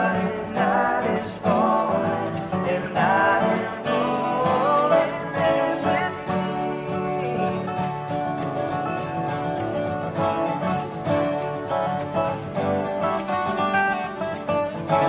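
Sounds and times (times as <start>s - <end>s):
acoustic guitars strumming chords: 0.0s - 15.0s
sliding guitar melody: 0.0s - 15.0s.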